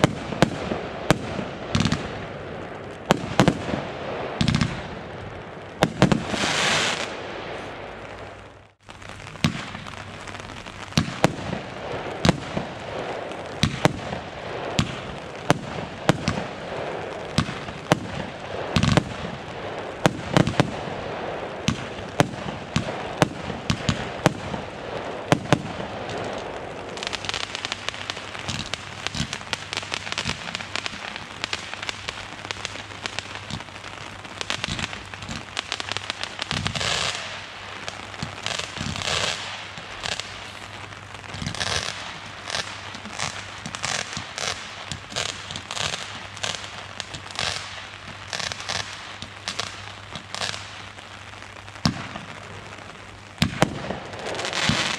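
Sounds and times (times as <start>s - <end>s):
fireworks bangs: 0.0s - 54.9s
fireworks crackling: 0.0s - 54.9s.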